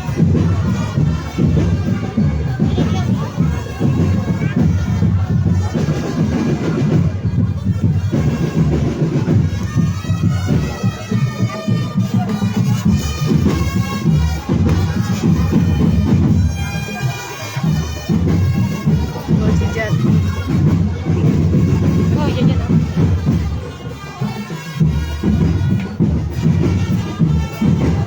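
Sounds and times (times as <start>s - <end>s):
drums beating: 0.0s - 28.0s
reedy wind instrument melody: 0.0s - 28.0s.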